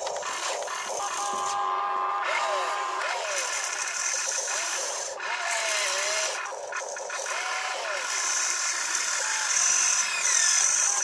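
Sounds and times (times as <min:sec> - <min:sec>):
small electric motors whining: 0:00.0 - 0:11.0.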